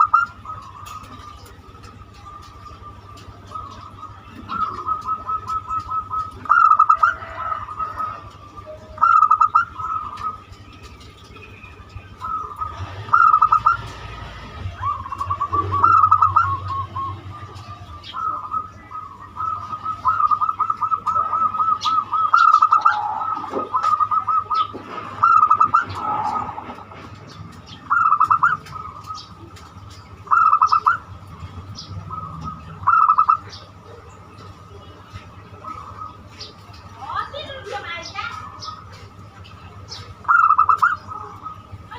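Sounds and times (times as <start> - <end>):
dove trilled cooing: 0.0 - 41.9.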